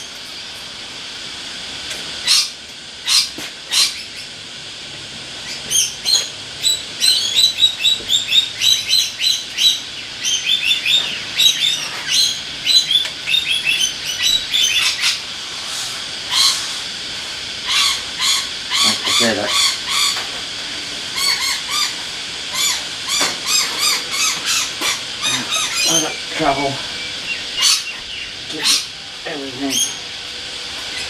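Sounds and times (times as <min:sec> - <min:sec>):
birds chirping: 0:02.2 - 0:04.4, 0:05.4 - 0:31.0.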